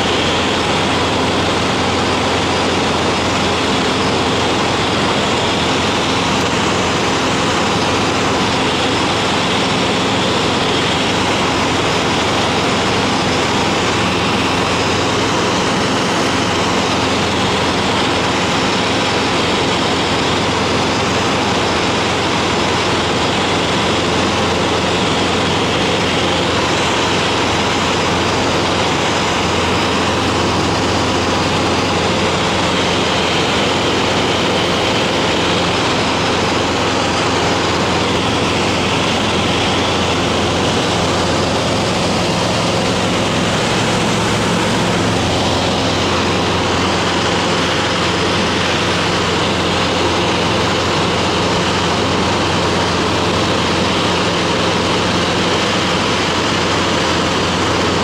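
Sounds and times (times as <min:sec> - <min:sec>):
small plane engine and propeller: 0:00.0 - 0:58.0.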